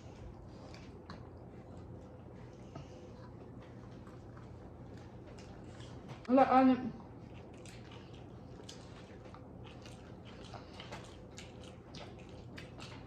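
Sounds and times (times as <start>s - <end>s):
chewing and biting food: 0.0s - 6.3s, 7.0s - 13.0s.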